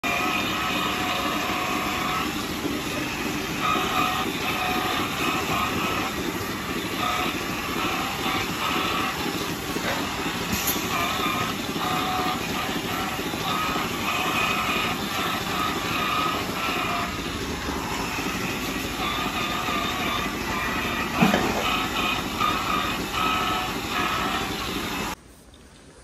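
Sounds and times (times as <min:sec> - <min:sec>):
milking machinery noise: 0:00.0 - 0:25.2
rotating brush whine: 0:00.0 - 0:25.2.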